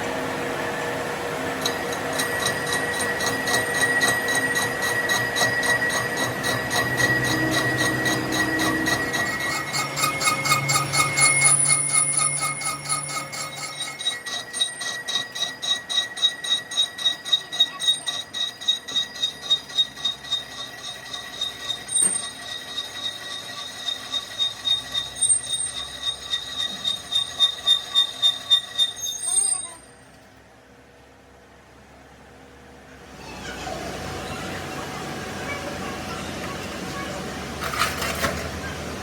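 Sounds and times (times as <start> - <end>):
machine tool cutting metal squeal: 1.5 - 30.2, 36.0 - 39.0.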